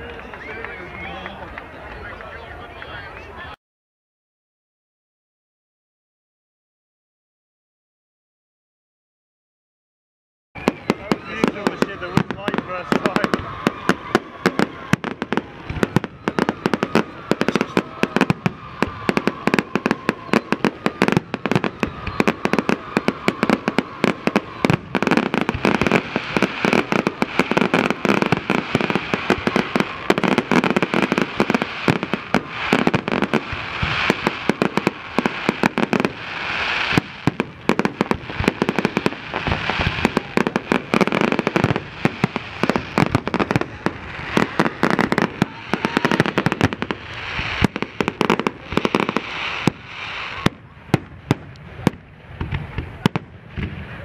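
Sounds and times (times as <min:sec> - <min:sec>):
fireworks bursting and crackling: 0:10.6 - 0:54.0.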